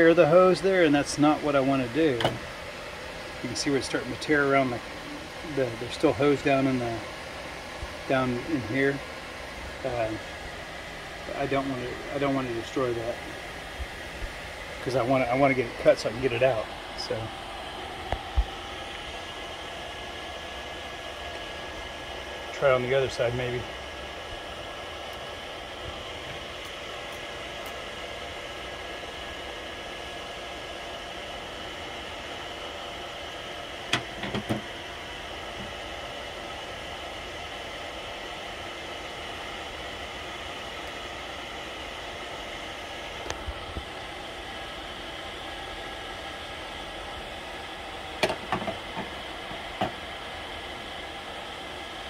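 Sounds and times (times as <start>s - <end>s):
fan-like mechanical hum: 0.0s - 52.0s.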